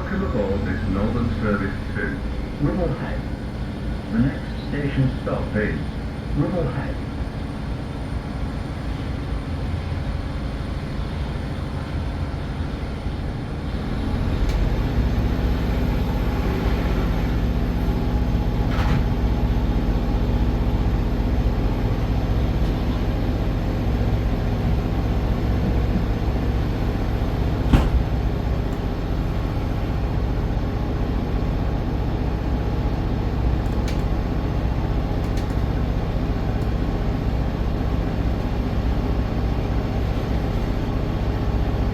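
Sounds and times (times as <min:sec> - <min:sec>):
train interior rumble: 0:00.0 - 0:41.9.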